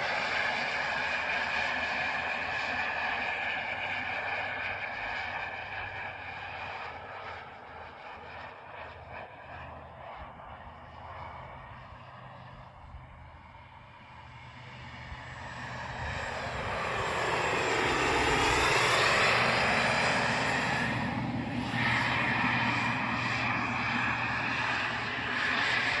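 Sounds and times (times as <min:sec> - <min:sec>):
model jet turbine whining: 0:00.0 - 0:26.0.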